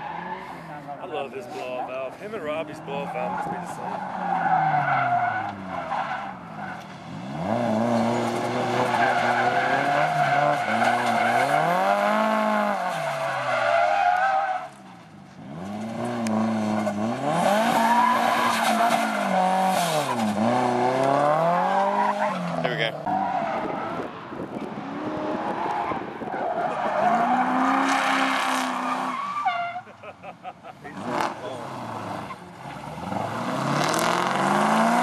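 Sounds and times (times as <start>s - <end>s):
tires squealing on asphalt: 0.0s - 30.1s, 30.9s - 35.0s
car engine revving: 2.5s - 13.8s, 14.7s - 29.2s, 30.8s - 35.0s.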